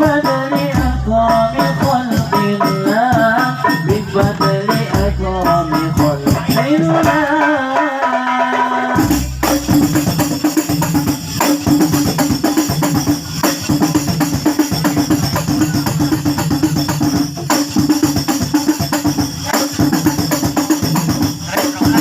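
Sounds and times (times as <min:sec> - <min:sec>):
hand drums: 0:00.0 - 0:22.0.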